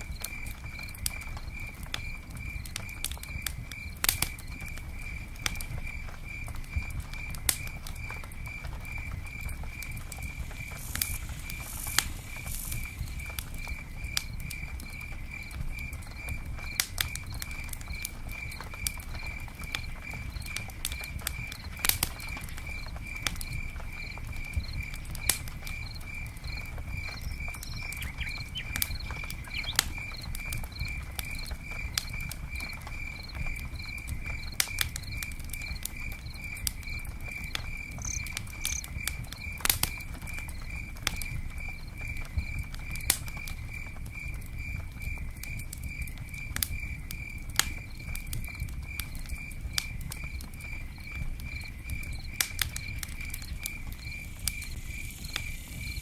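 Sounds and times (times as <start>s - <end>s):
campfire crackling: 0.0s - 56.0s
rain patter: 0.0s - 56.0s.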